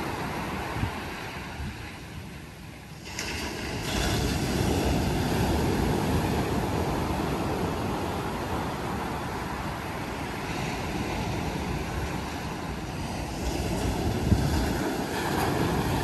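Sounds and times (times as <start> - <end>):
surf breaking on beach: 2.9 - 16.0.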